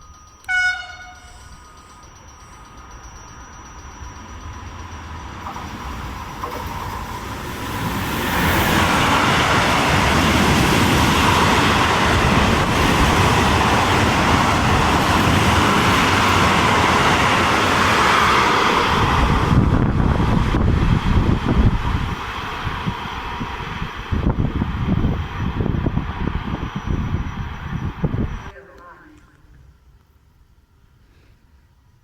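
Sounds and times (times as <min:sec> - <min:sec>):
train rushing past: 0:00.0 - 0:29.1.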